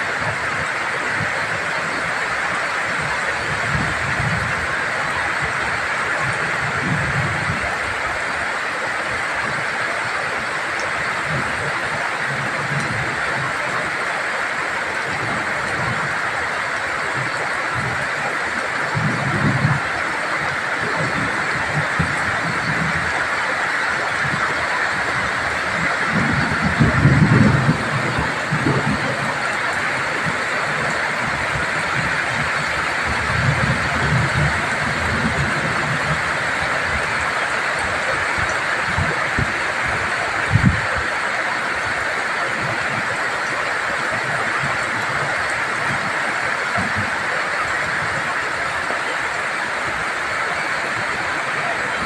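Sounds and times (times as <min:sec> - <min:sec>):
heavy rain pouring: 0:00.0 - 0:52.0
wind buffeting microphone: 0:00.0 - 0:52.0.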